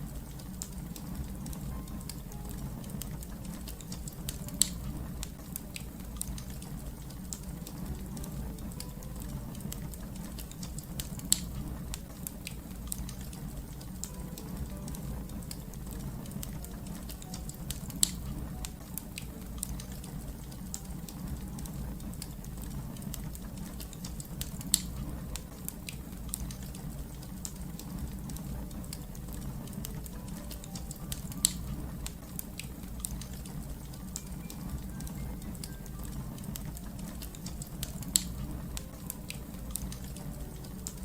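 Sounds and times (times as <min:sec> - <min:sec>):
fire crackling: 0:00.0 - 0:41.0
fire popping loudly: 0:00.0 - 0:41.0.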